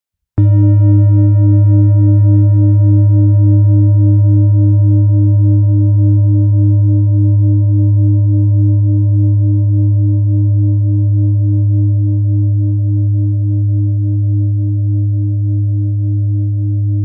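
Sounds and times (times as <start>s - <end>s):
loud sustained ringing tone: 0.4s - 17.0s.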